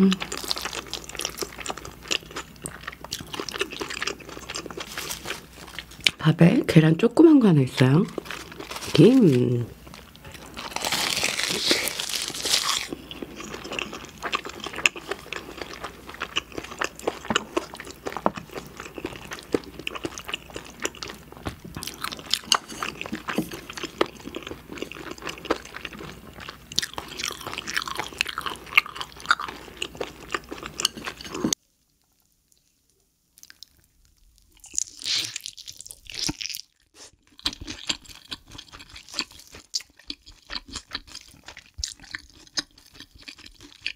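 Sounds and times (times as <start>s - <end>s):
chewing crunchy food: 0.0s - 6.2s, 7.8s - 43.9s.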